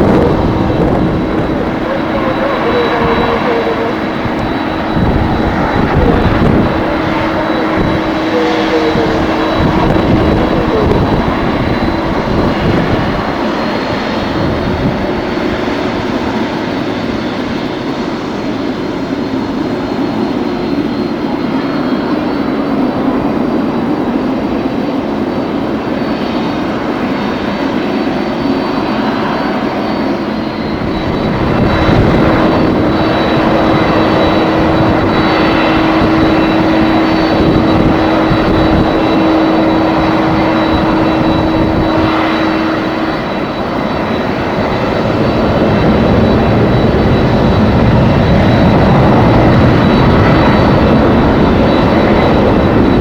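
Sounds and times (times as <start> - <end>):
jet engines roaring with whine: 0.0 - 53.0.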